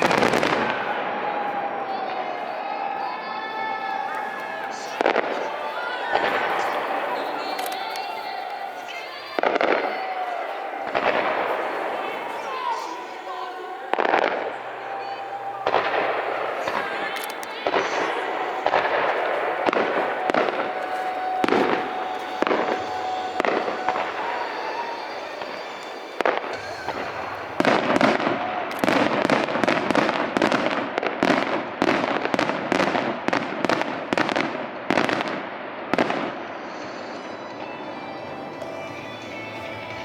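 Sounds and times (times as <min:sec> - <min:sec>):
fireworks bursting with loud bangs: 0:00.0 - 0:40.0.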